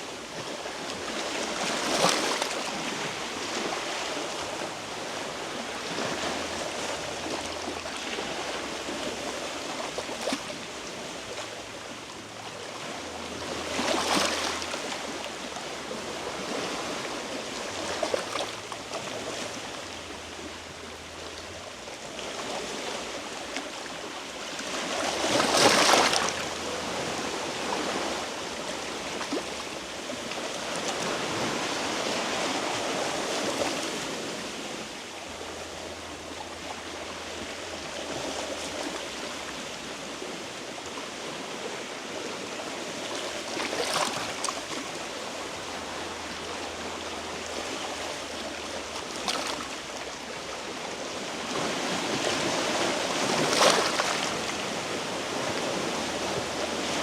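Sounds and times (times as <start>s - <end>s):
waves washing on rocky shore: 0.0s - 20.6s, 22.2s - 57.0s.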